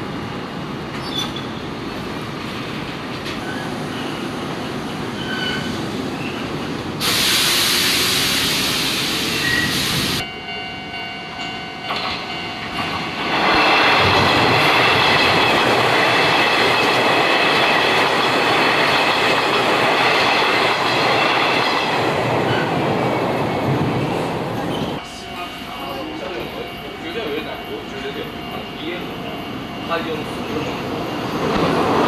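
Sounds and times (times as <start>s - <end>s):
electric train passing: 1.6s - 32.0s.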